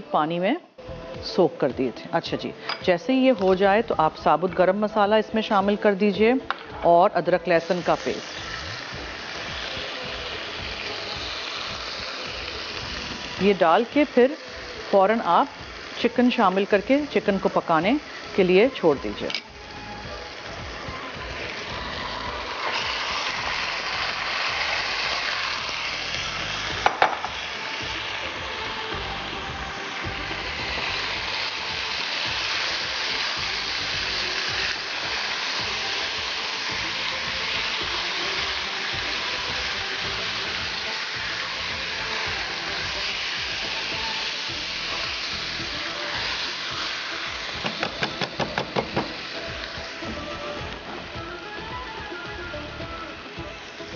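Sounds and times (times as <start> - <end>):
chicken sizzling in hot oil: 3.2 - 53.9.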